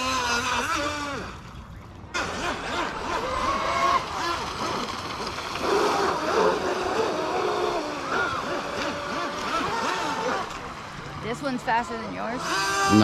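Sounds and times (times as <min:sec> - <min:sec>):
boat wake splashing: 0:00.0 - 0:13.0
model boat motors whining: 0:00.0 - 0:13.0.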